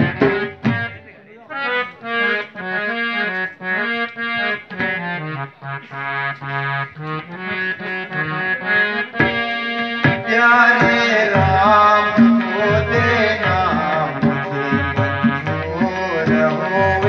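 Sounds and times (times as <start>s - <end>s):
harmonium melody: 0.0s - 17.0s.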